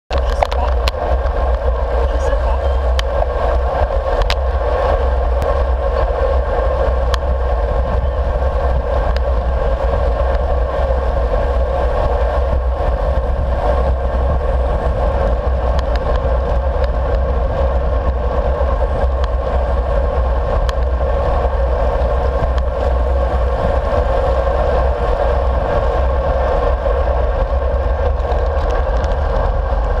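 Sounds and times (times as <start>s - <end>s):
bike tyre and road noise: 0.1s - 30.0s
wind rumble on microphone: 0.1s - 30.0s.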